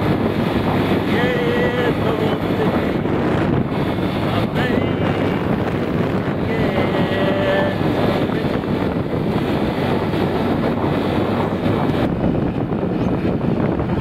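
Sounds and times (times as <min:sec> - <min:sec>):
vehicle running noise: 0:00.0 - 0:14.0
wind rushing over microphone: 0:00.0 - 0:14.0.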